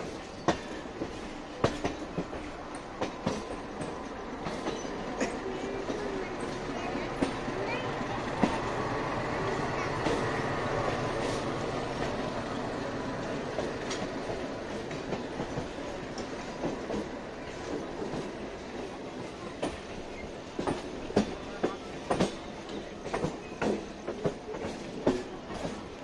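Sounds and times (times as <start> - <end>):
train running on rails: 0.0 - 26.0
wheels clacking over rail joints: 0.0 - 26.0.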